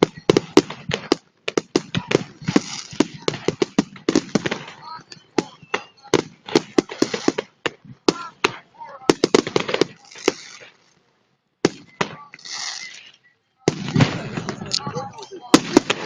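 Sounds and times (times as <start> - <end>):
fireworks bangs and crackling: 0.0 - 11.0, 11.6 - 16.0.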